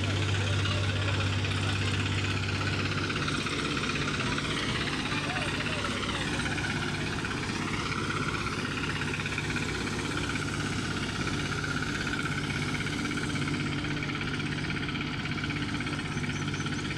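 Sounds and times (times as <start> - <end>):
heavy machinery engine running: 0.0 - 16.9.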